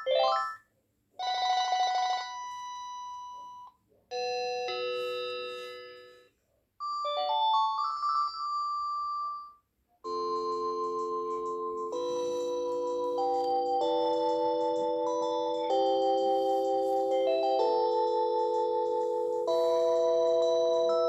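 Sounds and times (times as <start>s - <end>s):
electronic ringtone melodies: 0.0s - 0.6s, 1.2s - 9.5s, 10.1s - 21.0s.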